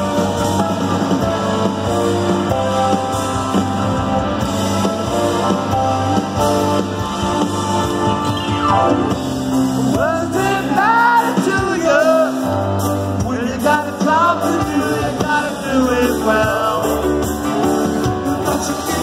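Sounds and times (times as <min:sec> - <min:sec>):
drum kit: 0:00.0 - 0:19.0
electric guitars: 0:00.0 - 0:19.0.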